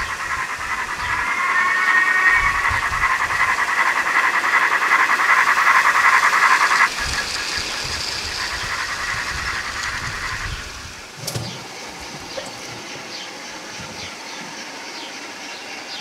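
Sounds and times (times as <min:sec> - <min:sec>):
model train whirr and wheel rattle: 0:00.0 - 0:16.0.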